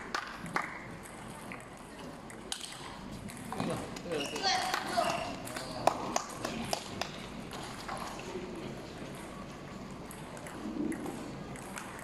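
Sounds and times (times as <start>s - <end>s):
murmur of sports hall: 0.0s - 12.0s.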